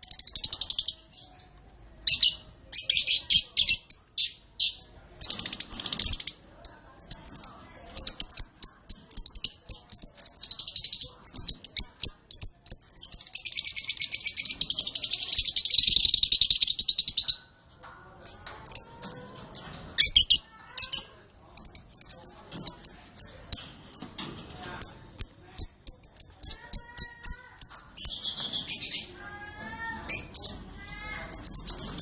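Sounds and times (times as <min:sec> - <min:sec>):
canary warbling song: 0:00.0 - 0:24.2, 0:24.8 - 0:32.0
canaries chirping: 0:00.0 - 0:32.0.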